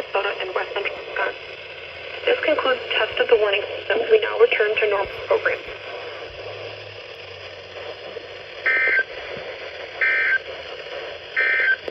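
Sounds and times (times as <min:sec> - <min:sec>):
radio hiss: 0:00.0 - 0:11.9.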